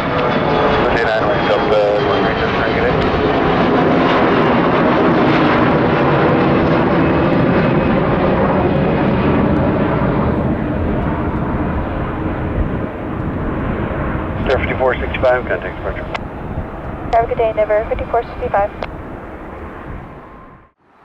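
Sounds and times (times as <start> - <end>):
jet engines at takeoff: 0.0 - 21.0.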